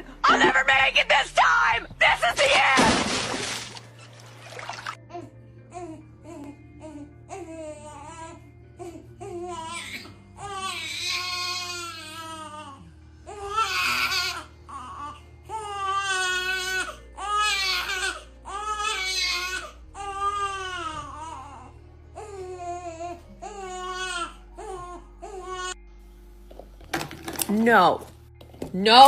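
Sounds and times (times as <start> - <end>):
background music: 0.0 - 29.0.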